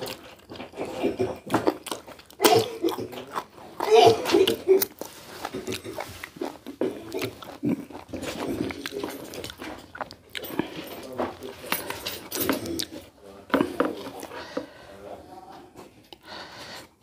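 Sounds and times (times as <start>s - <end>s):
chewing and smacking mouth sounds: 0.0s - 14.7s.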